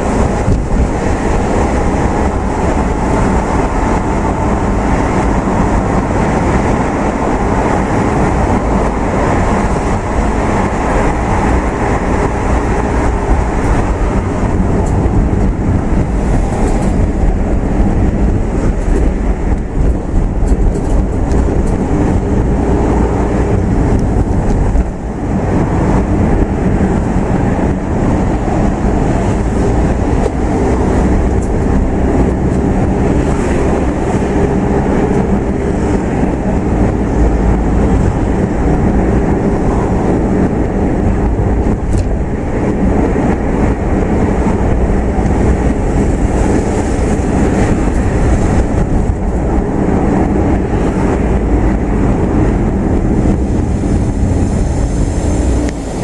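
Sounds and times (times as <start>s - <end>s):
car driving on road: 0.0s - 56.0s.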